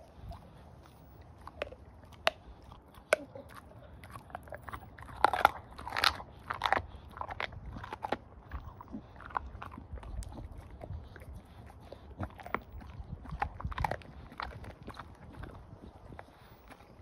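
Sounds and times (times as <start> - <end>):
dog chewing and crunching bone: 0.0 - 17.0.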